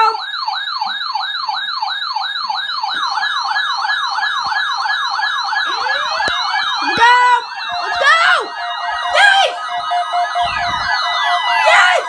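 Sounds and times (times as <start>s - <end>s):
electronic siren alarm sweeping: 0.0s - 12.0s
second siren alarm: 0.0s - 12.0s.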